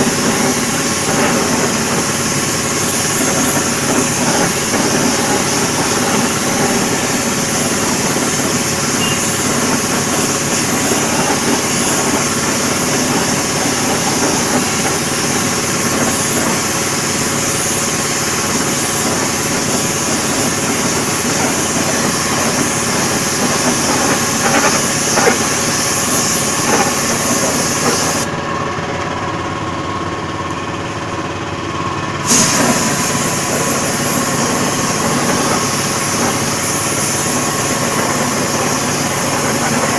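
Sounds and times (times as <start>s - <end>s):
spray gun hissing: 0.0s - 28.3s, 32.2s - 39.9s
air compressor humming: 0.0s - 39.9s.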